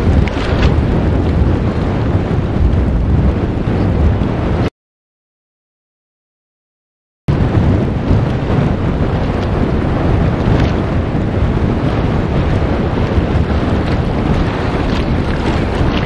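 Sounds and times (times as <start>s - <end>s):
wind buffeting microphone: 0.0s - 4.7s, 7.3s - 16.0s.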